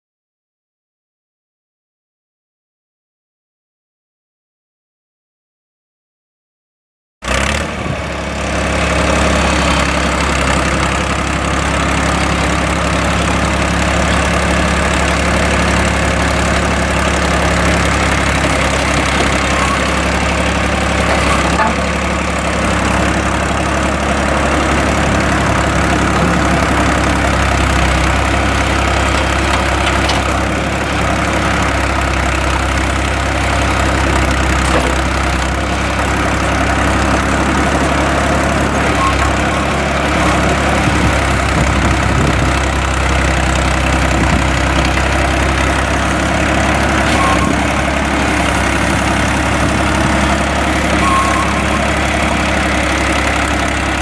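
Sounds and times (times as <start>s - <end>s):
backhoe engine running: 7.2s - 54.0s
backhoe boom and bucket working: 7.3s - 54.0s.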